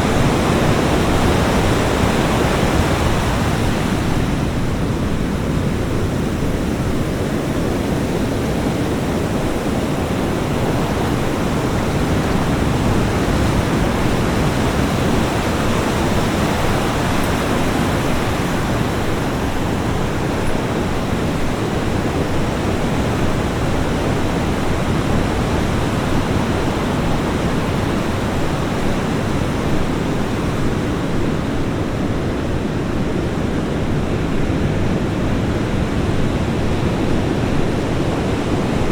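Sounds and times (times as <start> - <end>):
ocean waves on a beach: 0.0 - 38.9.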